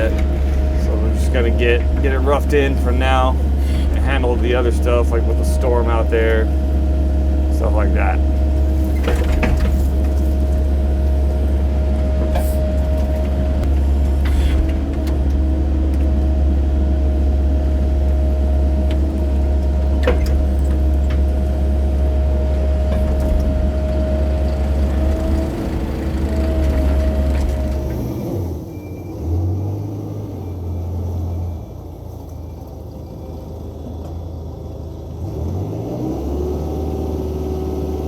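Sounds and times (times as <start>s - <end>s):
excavator diesel engine: 0.0s - 38.0s.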